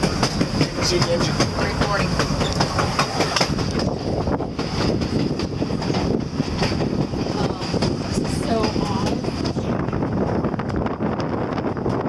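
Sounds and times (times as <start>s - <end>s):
wheel clicks on rails: 0.0s - 9.7s
train rumble and hiss: 0.0s - 12.0s.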